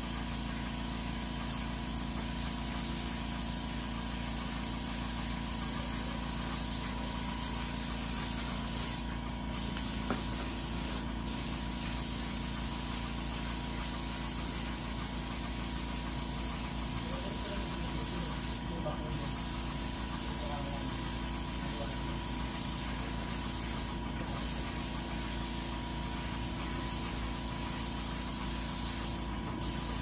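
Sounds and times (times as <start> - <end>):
air compressor humming: 0.0 - 30.0
spray gun hissing: 0.0 - 30.0.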